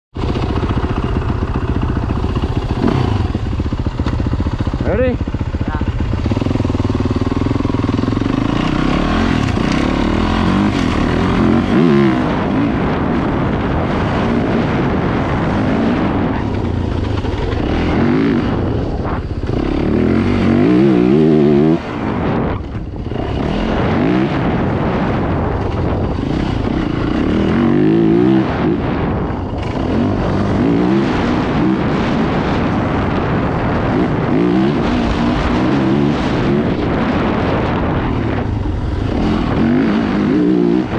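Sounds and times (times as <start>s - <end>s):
dirt bike engine revving: 0.2s - 40.9s.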